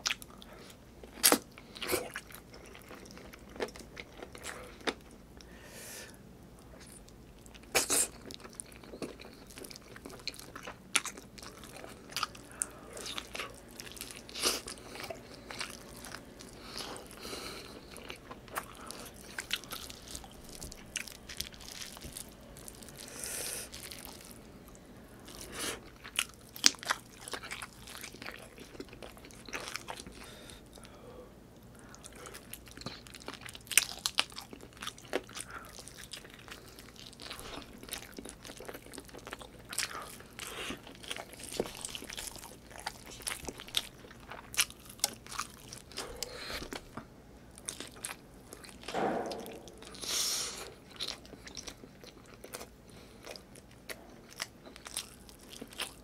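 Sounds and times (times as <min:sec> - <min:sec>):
wet chewing and lip-smacking: 0:06.6 - 0:30.9, 0:31.7 - 0:50.1, 0:50.7 - 0:56.0.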